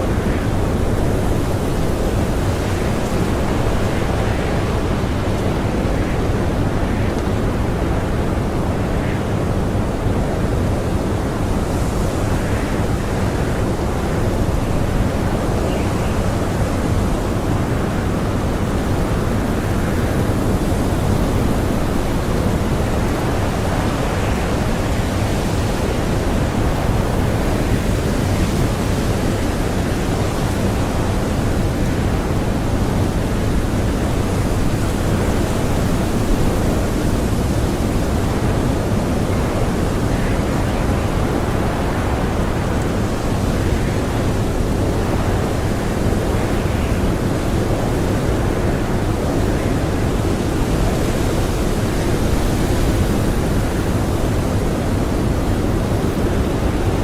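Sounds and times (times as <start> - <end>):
strong blizzard wind: 0.0 - 57.0.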